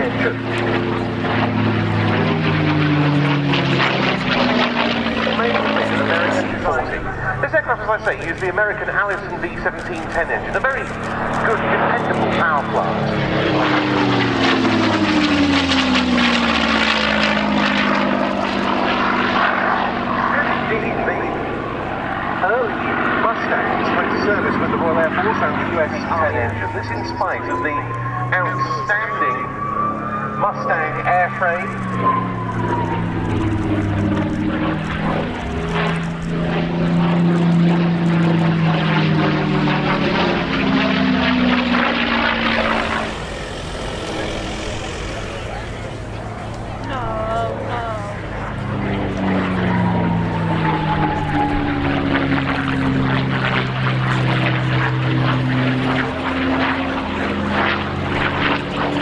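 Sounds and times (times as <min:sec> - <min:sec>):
aircraft engine passing: 0:00.0 - 0:59.0.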